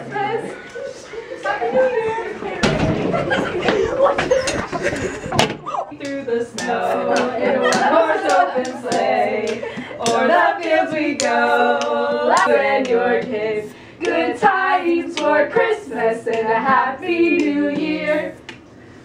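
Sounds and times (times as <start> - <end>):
group of voices singing a carol: 0.0 - 2.8, 5.8 - 18.4.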